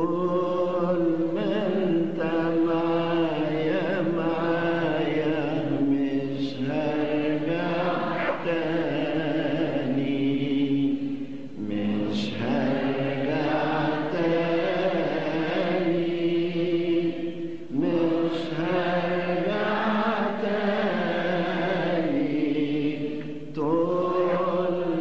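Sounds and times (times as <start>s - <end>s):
person chanting a hymn: 0.0s - 25.0s.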